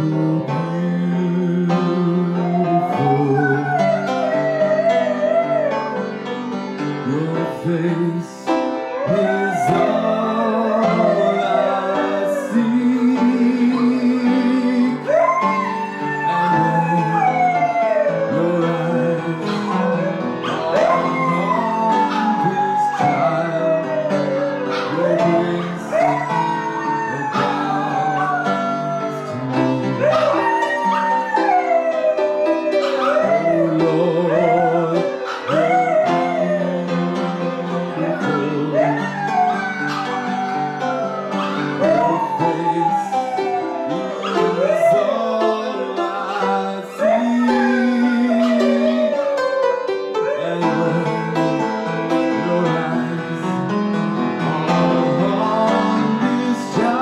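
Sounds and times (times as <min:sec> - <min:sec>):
piano chords: 0:00.0 - 0:57.0
dog howling: 0:00.5 - 0:06.3, 0:08.8 - 0:53.7, 0:54.5 - 0:57.0.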